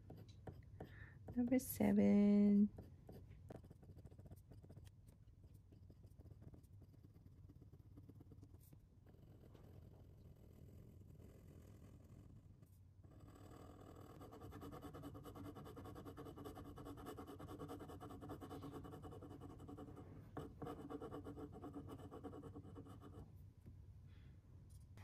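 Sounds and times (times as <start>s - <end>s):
pen scratching on paper: 0.0s - 1.5s, 2.7s - 23.2s.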